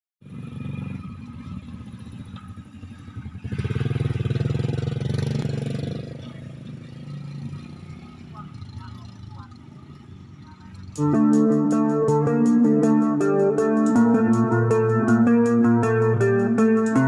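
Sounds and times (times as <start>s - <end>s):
motorcycle engine passing by: 0.2s - 16.8s.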